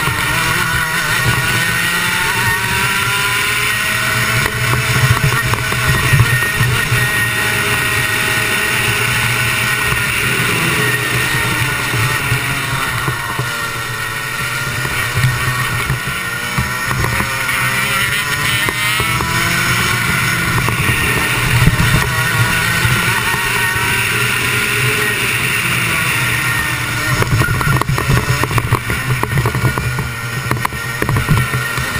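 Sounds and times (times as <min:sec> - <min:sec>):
kart engine revving: 0:00.0 - 0:31.9.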